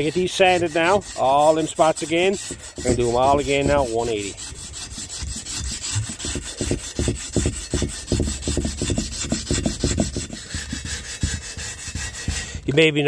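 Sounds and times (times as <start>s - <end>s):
sandpaper rubbing on metal wheel: 0.0s - 13.0s.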